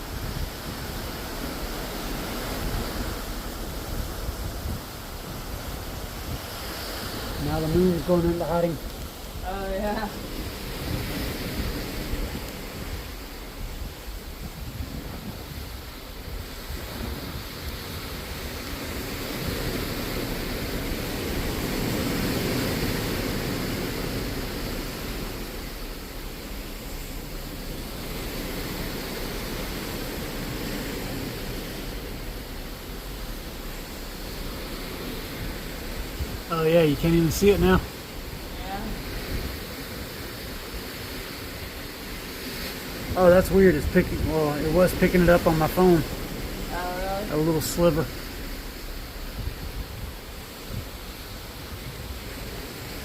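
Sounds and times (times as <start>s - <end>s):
sea washing: 0.0s - 53.0s
wind noise on microphone: 0.0s - 53.0s.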